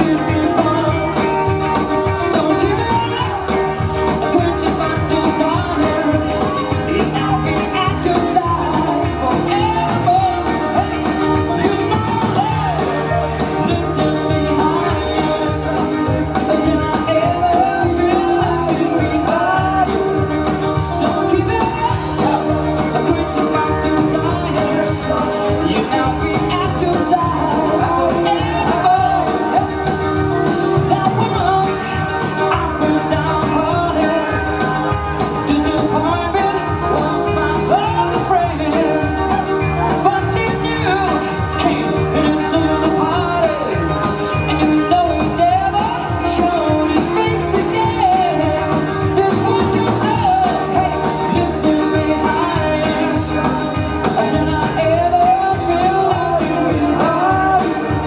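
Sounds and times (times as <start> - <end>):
person singing: 0.0 - 58.0
rock band playing: 0.0 - 58.0
steady drum beat: 0.0 - 58.0.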